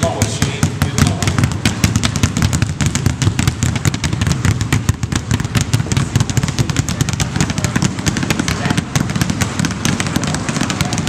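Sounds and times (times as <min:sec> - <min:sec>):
basketballs bouncing on hardwood floor: 0:00.0 - 0:11.0.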